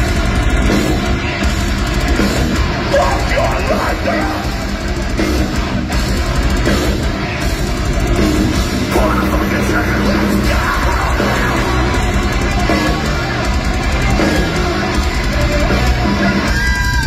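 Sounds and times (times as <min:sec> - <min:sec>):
heavy metal band playing live: 0:00.0 - 0:17.0
pounding drum kit: 0:00.0 - 0:17.0.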